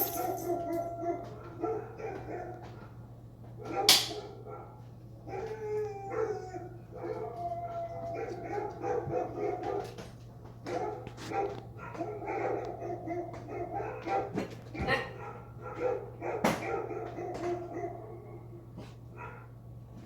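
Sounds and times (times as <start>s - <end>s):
dogs whining and howling: 0.0s - 19.6s.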